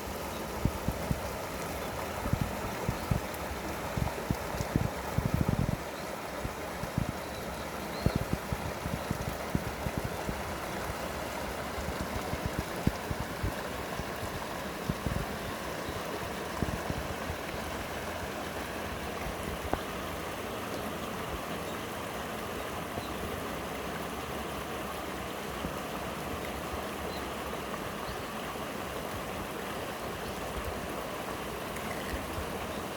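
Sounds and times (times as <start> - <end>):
stream flowing over rocks: 0.0 - 32.9.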